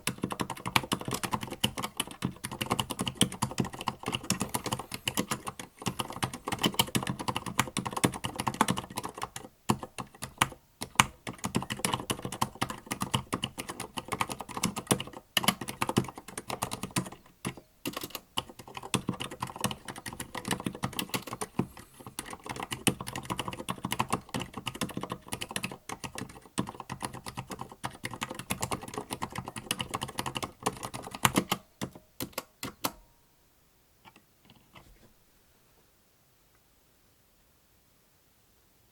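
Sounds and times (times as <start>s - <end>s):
muted keyboard typing: 0.0s - 33.0s.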